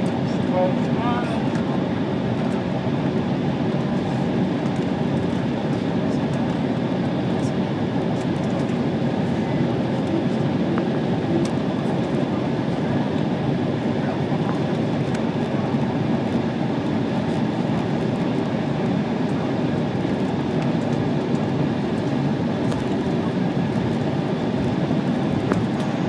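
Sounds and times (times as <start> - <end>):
aircraft cabin engine noise: 0.0 - 26.0.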